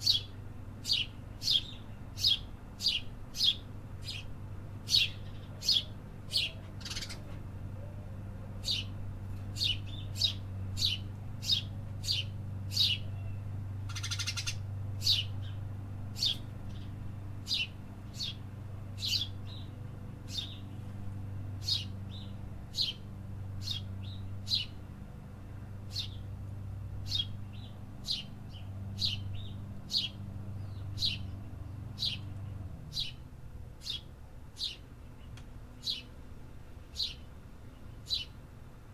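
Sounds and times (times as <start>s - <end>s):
small bird chirping: 0.0s - 7.3s, 8.6s - 18.4s, 19.0s - 20.8s, 21.6s - 23.0s, 23.6s - 24.8s, 25.9s - 26.2s, 27.0s - 33.2s, 33.8s - 36.1s, 36.9s - 38.4s
steady low hum: 0.0s - 38.9s.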